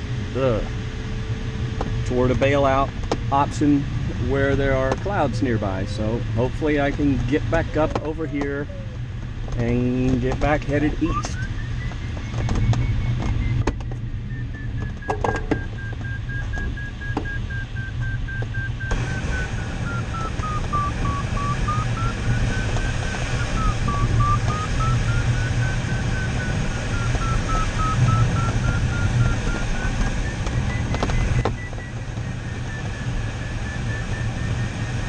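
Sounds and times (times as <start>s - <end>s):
air rushing in cockpit: 0.0s - 35.0s
variometer tone sliding in pitch: 3.4s - 9.0s, 9.6s - 35.0s.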